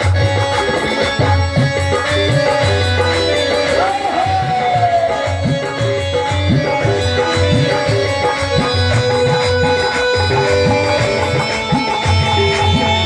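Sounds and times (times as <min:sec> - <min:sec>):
tabla playing a rhythm: 0:00.0 - 0:13.0.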